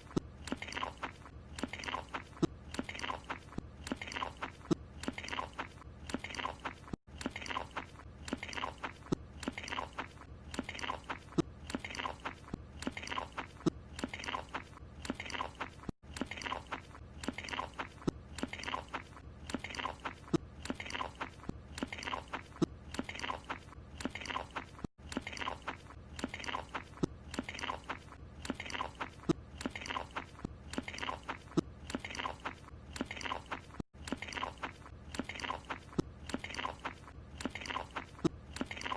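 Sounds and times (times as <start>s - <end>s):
cartoon crunchy chewing: 0.0s - 38.9s.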